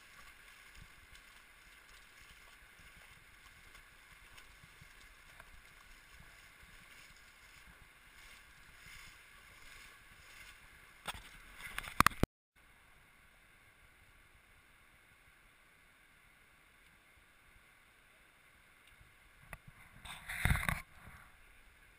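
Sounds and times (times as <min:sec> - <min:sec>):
muffled river water hiss: 0:00.0 - 0:12.0, 0:12.6 - 0:21.9.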